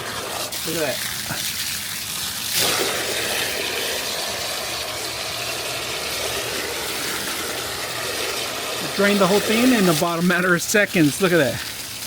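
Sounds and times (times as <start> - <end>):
water rushing from hose: 0.0 - 12.0.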